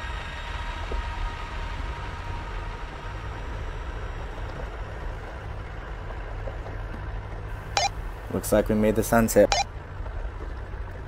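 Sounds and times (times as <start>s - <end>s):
truck driving on dirt: 0.0s - 11.0s.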